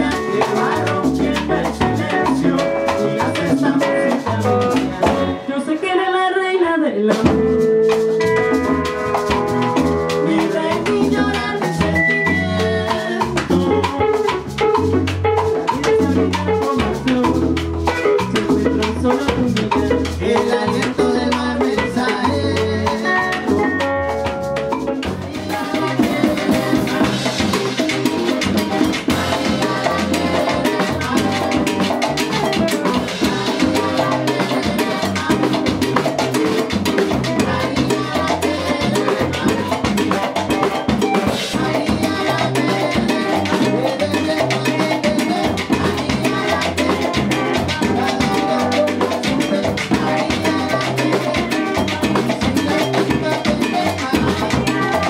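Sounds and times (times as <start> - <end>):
live band playing latin groove: 0.0 - 55.0.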